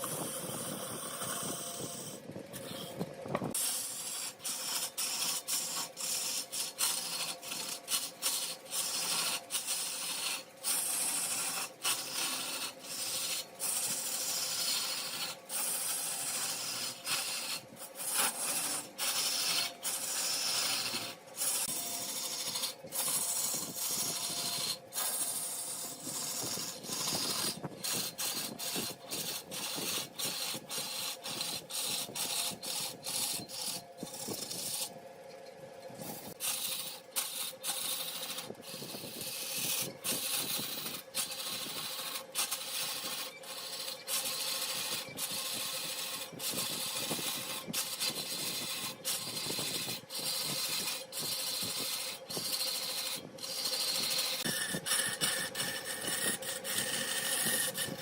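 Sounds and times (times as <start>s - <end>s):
wood lathe tool cutting wood: 0.0s - 35.0s, 35.9s - 58.0s
steady hum: 0.0s - 58.0s.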